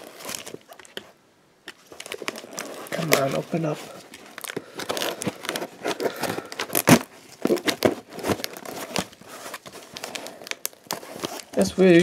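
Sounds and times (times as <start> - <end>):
packing tape peeling off cardboard: 0.0 - 11.7.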